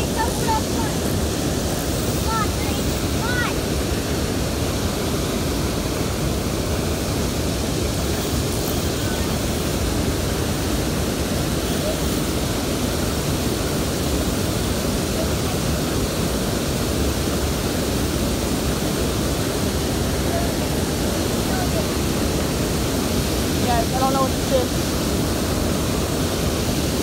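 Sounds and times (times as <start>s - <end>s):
water rushing over dam: 0.0s - 27.0s.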